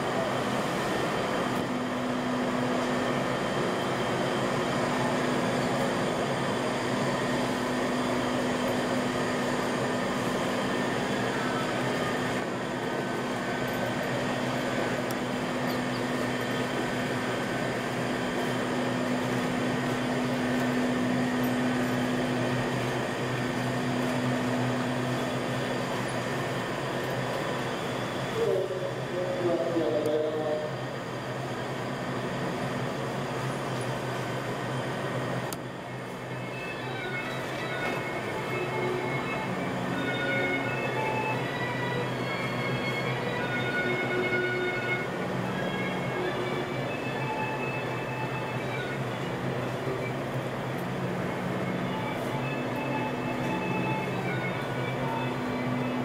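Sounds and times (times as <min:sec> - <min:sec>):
ferris wheel mechanical hum: 0:00.0 - 0:56.0.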